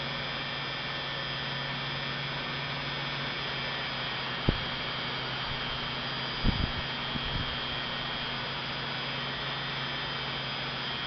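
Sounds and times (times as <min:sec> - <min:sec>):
drill press motor humming: 0:01.4 - 0:11.0.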